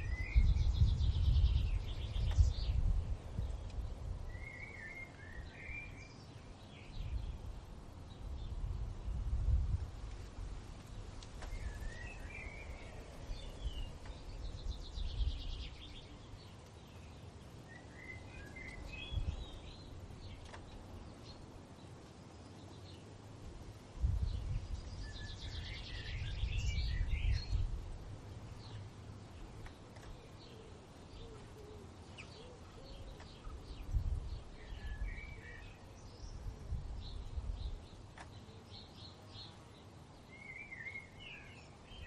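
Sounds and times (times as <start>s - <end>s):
low wind rumble: 0.0s - 42.0s
songbirds twittering and trilling: 0.0s - 42.0s.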